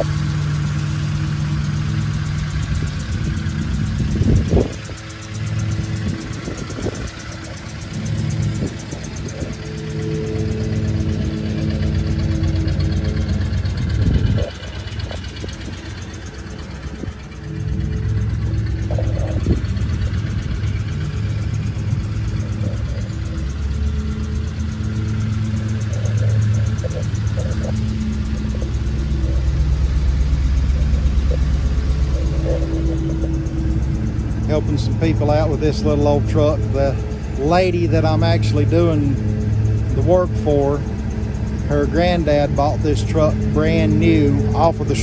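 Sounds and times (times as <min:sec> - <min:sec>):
pickup truck engine idling: 0:00.0 - 0:45.0.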